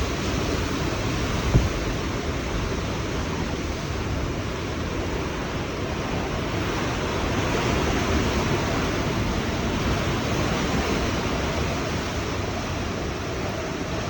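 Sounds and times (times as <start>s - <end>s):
strong wind blowing: 0.0s - 14.0s
wind buffeting microphone: 0.0s - 14.0s.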